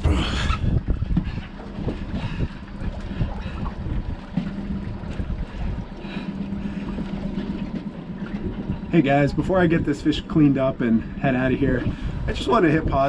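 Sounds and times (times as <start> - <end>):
wind gusting on microphone: 0.0 - 6.7, 8.4 - 13.0
steady low hum: 0.0 - 13.0.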